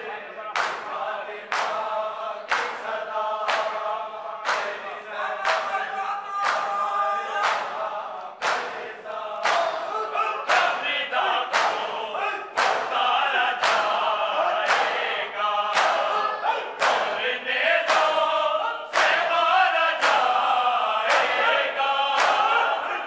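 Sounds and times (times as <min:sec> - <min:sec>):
men chanting in unison: 0:00.0 - 0:23.0
massed hand slaps on chests: 0:00.5 - 0:16.2, 0:16.8 - 0:17.2, 0:17.8 - 0:22.8.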